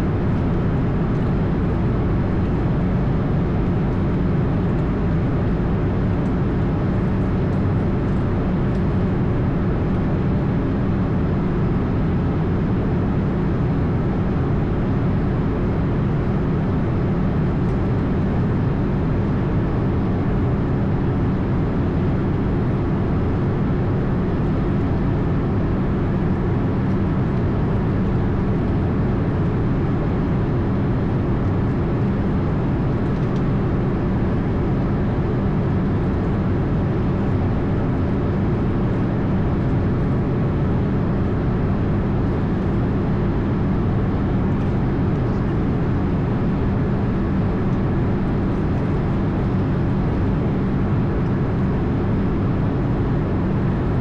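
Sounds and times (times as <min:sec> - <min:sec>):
cockpit engine and airflow noise: 0:00.0 - 0:54.0.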